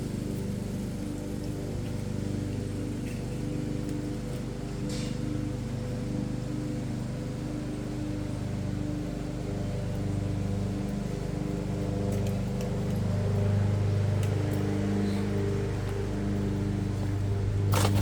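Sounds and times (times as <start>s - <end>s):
engine-like hum: 0.0s - 18.0s.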